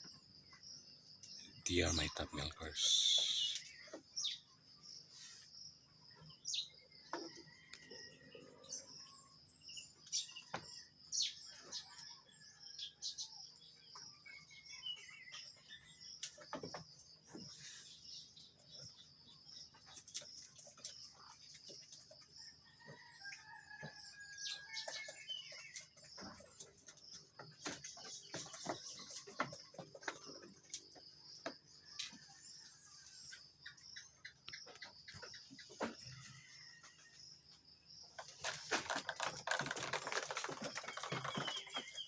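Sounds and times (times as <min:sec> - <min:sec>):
birds chirping: 0:00.0 - 0:37.0, 0:37.7 - 0:42.0.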